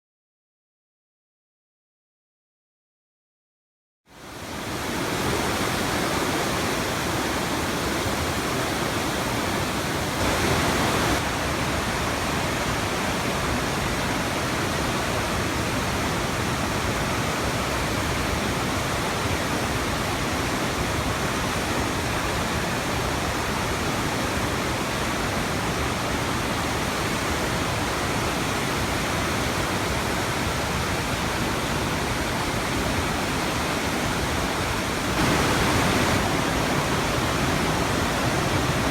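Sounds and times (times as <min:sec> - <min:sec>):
river rushing through gorge: 0:04.1 - 0:38.9.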